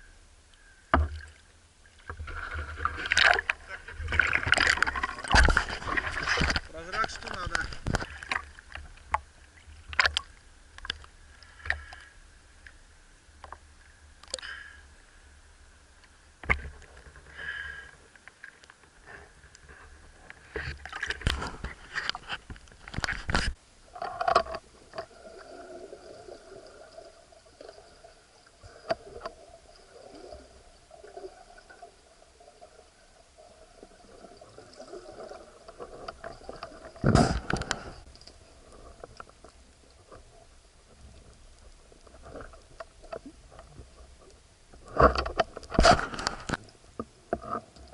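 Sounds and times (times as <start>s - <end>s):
faint steady hum: 0.0s - 47.9s
water sloshing and gurgling: 0.9s - 14.7s, 15.7s - 47.9s.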